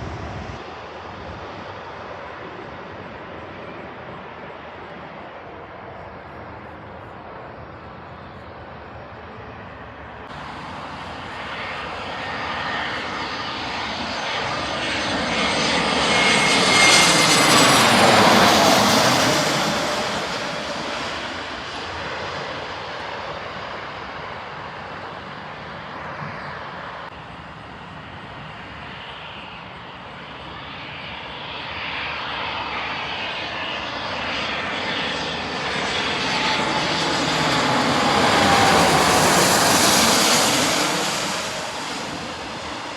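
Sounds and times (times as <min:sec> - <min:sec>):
aircraft engine: 0:00.0 - 0:42.9
airplane passing: 0:00.0 - 0:42.9.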